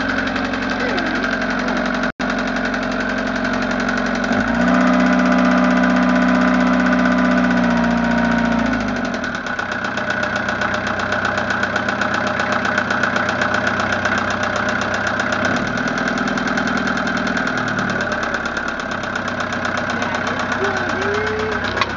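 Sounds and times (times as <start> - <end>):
boat engine idling: 0.0 - 21.9
engine tapping: 0.0 - 21.9.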